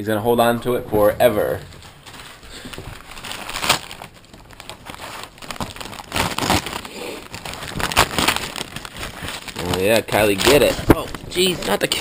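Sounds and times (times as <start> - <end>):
wrapping paper crinkling: 1.6 - 12.0.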